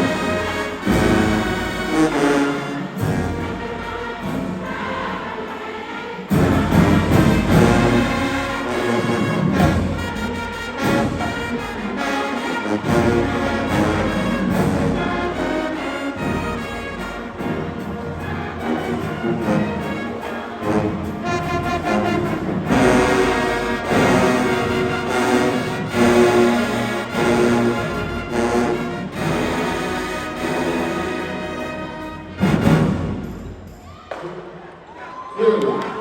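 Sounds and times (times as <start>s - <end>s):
marching band playing: 0.0s - 34.9s.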